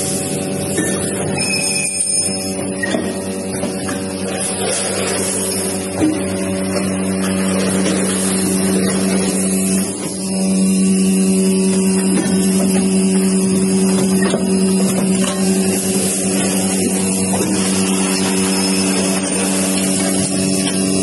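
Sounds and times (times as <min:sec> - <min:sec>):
packing machine humming: 0:00.0 - 0:21.0.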